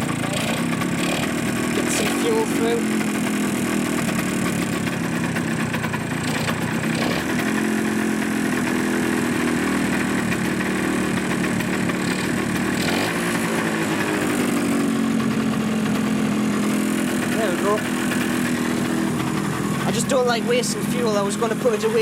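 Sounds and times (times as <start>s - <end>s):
two-stroke engine running: 0.0s - 22.0s.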